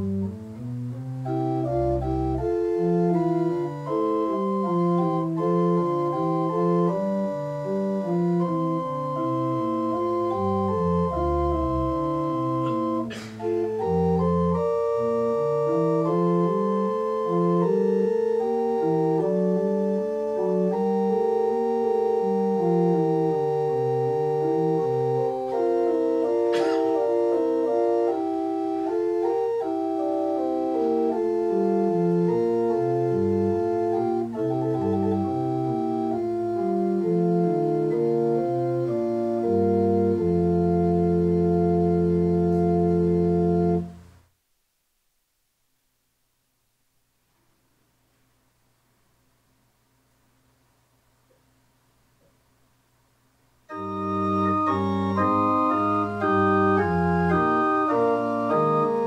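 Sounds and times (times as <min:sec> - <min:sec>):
church organ playing slow piece: 0:00.0 - 0:44.0, 0:53.7 - 0:59.0.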